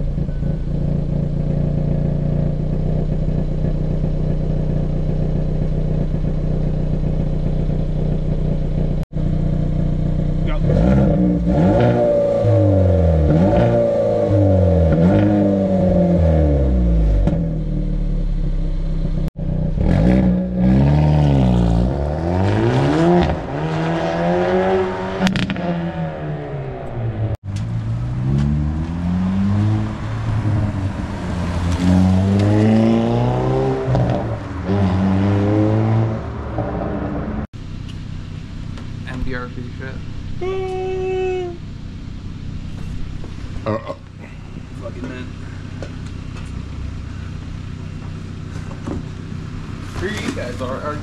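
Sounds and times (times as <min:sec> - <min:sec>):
car engine accelerating: 0:00.0 - 0:51.0.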